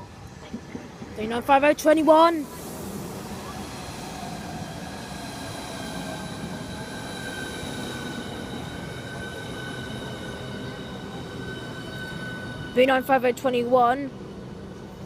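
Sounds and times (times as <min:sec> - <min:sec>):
high whining train tones: 0:00.0 - 0:15.0
train running rumble: 0:00.0 - 0:15.0.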